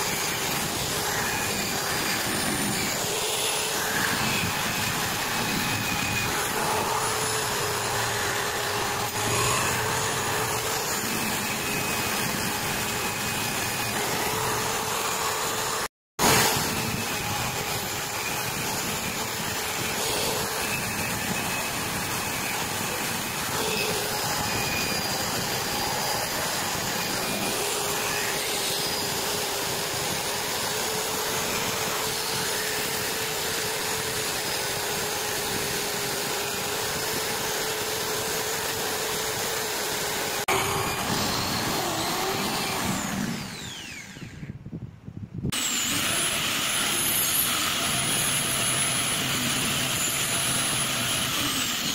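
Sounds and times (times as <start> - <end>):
wire brush grinder scrubbing metal: 0.0 - 44.4, 45.5 - 51.9
angle grinder starting: 0.0 - 44.6, 45.5 - 51.9.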